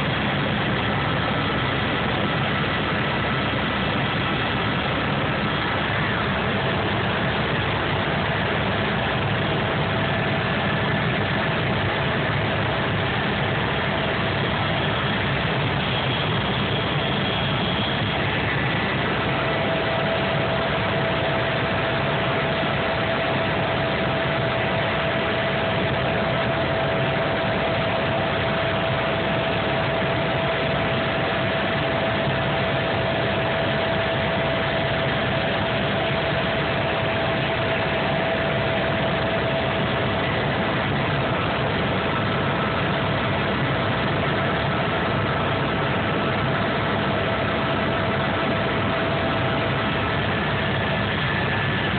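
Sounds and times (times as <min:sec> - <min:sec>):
helicopter engine and rotor: 0:00.0 - 0:51.9
steady whine: 0:00.0 - 0:51.9.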